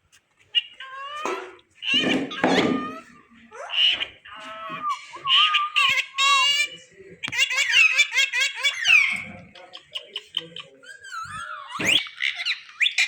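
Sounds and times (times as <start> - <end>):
parrot chattering and calling: 0.5 - 13.0.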